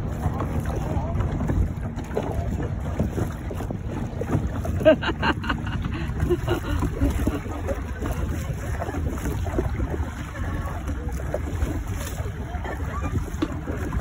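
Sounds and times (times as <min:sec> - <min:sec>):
paddles splashing in water: 0:00.0 - 0:14.0
water lapping: 0:00.0 - 0:14.0
wind rumble on microphone: 0:00.0 - 0:14.0.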